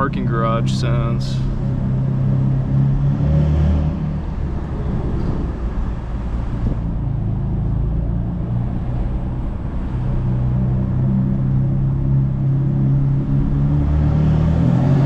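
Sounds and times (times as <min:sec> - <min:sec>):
car engine and exhaust running: 0:00.0 - 0:15.0.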